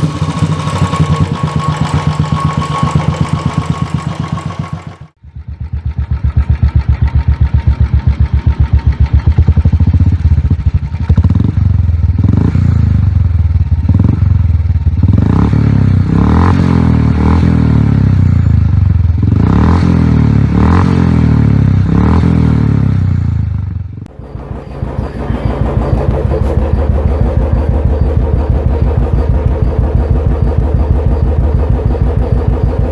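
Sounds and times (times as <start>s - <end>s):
motorcycle idling: 0.0s - 32.9s
motorcycle throttle blips: 0.0s - 32.9s.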